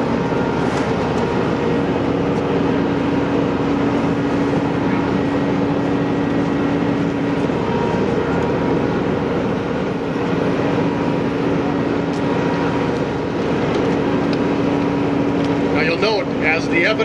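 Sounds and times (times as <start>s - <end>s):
humming tone: 0.0s - 15.7s
idling vehicle engines drone: 0.0s - 17.0s.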